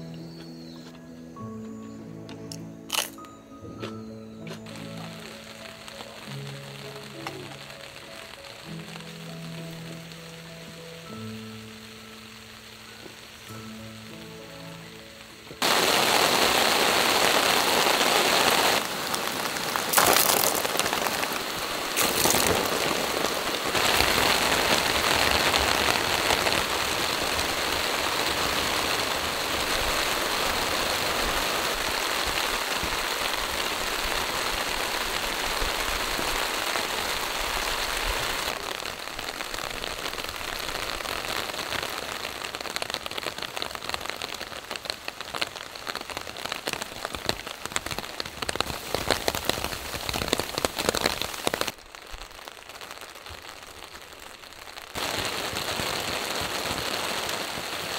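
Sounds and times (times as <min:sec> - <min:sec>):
heavy rain pouring: 0:04.5 - 0:57.9.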